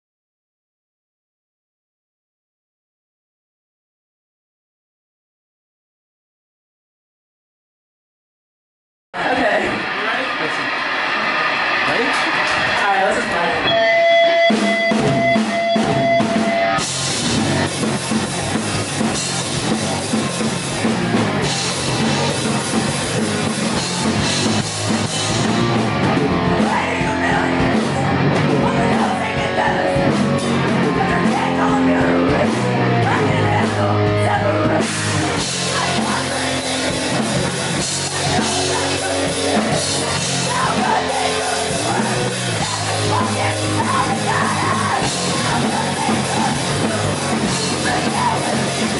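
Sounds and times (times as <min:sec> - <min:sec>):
live rock band playing: 0:09.2 - 0:48.9.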